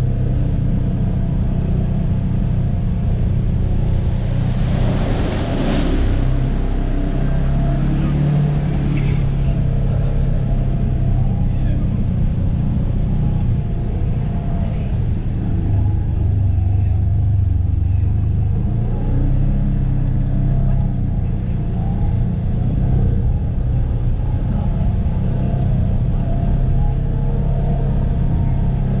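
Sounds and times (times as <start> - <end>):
loud engine running: 0.0 - 29.0.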